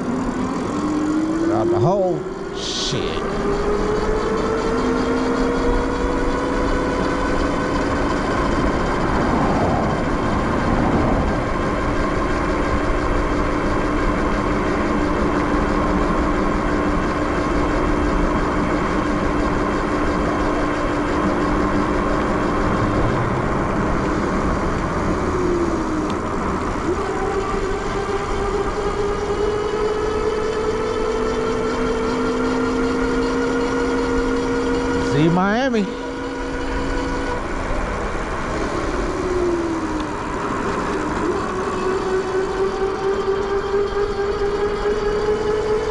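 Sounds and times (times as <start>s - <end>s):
electric bike motor whining: 0.0s - 45.9s.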